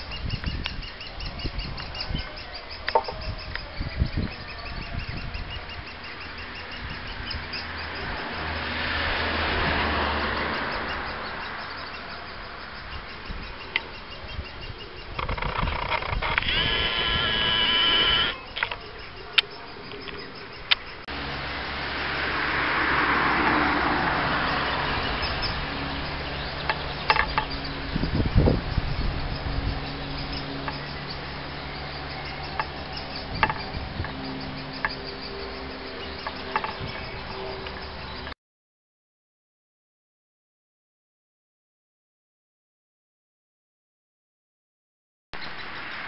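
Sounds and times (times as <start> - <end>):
nestlings buzzing chatter: 0.0 - 38.4.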